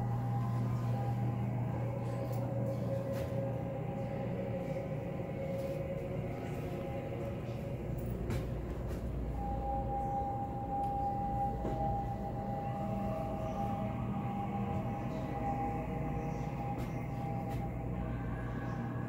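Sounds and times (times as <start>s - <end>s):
ambient drone music: 0.0s - 19.0s.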